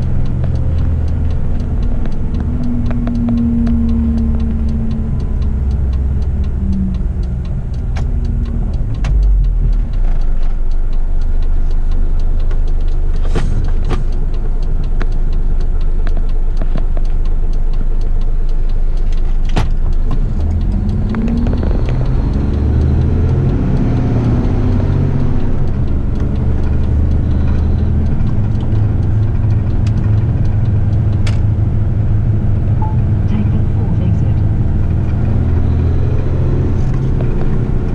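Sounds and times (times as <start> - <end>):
truck diesel engine running: 0.0 - 37.9.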